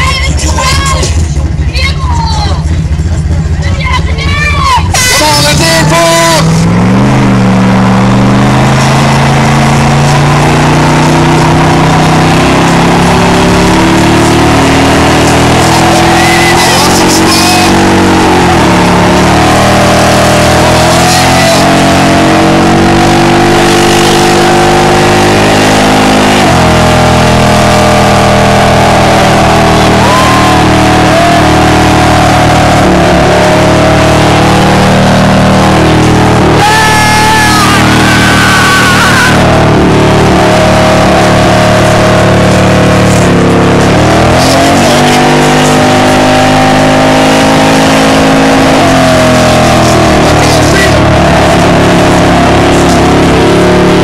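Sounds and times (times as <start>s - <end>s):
tires squealing: 0.0s - 54.0s
truck engine revving: 0.0s - 54.0s.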